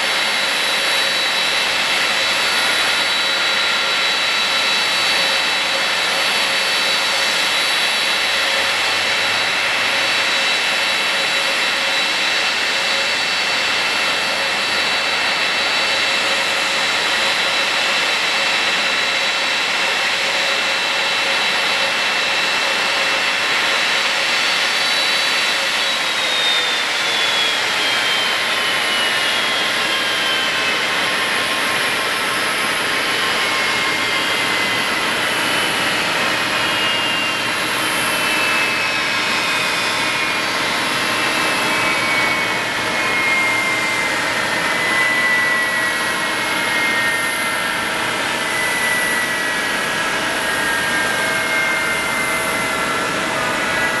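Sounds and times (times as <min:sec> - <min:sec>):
jet engines spooling down: 0:00.0 - 0:54.0.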